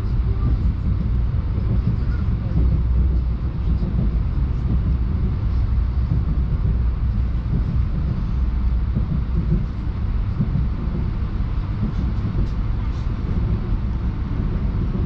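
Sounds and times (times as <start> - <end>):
electric train low rumble: 0.0 - 15.0.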